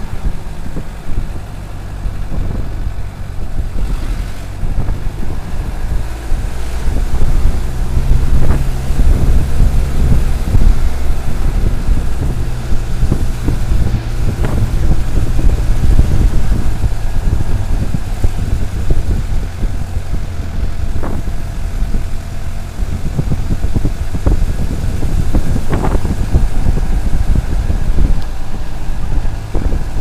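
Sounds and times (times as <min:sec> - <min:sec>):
off-road vehicle engine rumble: 0:00.0 - 0:30.0.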